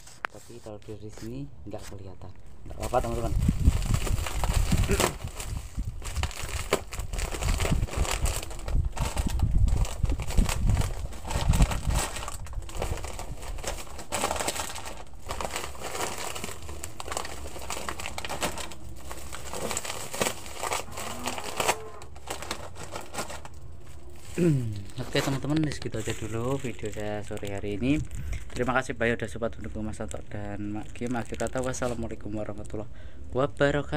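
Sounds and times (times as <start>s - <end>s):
plastic snack packets crinkling: 2.7s - 32.9s.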